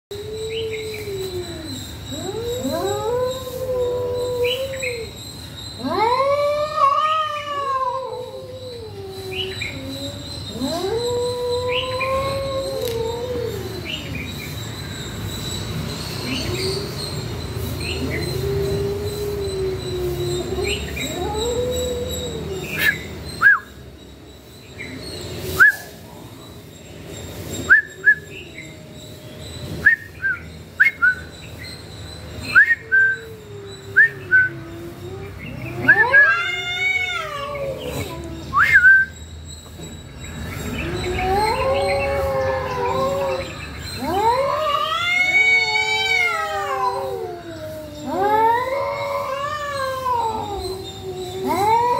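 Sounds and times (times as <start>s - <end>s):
cats yowling: 0.1s - 23.9s, 27.1s - 30.2s, 32.1s - 51.9s.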